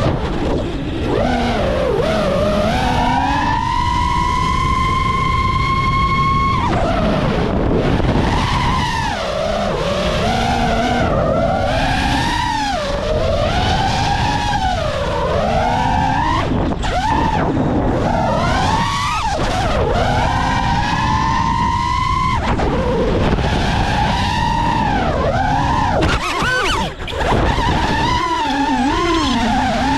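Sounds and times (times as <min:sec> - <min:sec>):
quadcopter motors whining: 0:00.0 - 0:29.9
wind rush on microphone: 0:00.0 - 0:29.9.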